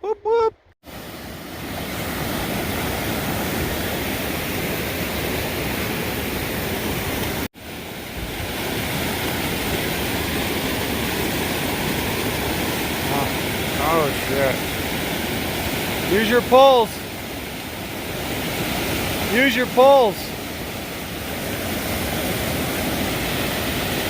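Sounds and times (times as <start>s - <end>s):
fast-flowing creek rushing: 0.8s - 24.0s.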